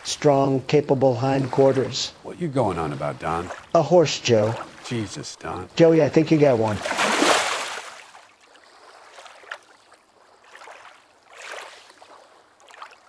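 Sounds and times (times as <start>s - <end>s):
rush of water: 0.0s - 13.0s
water sloshing and lapping: 0.0s - 13.0s.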